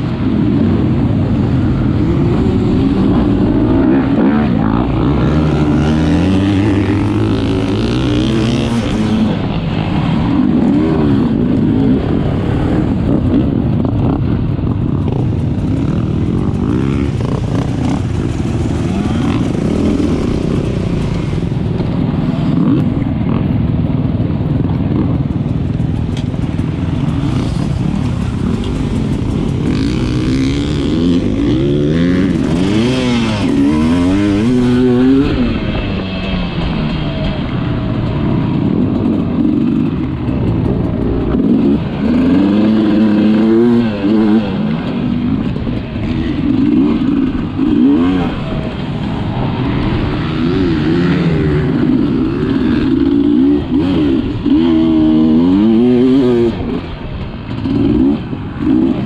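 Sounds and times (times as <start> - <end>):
constant rushing noise: 0.0 - 59.0
motorcycle engine revving: 0.0 - 59.0.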